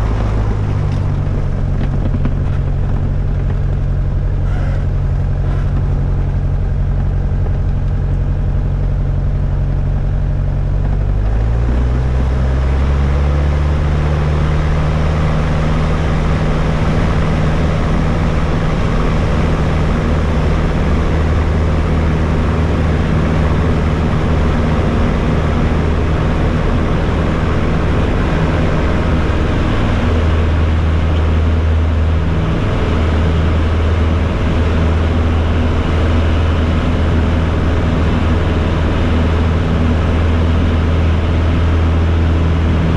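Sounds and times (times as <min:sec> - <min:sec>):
light aircraft engine running: 0:00.0 - 0:42.9.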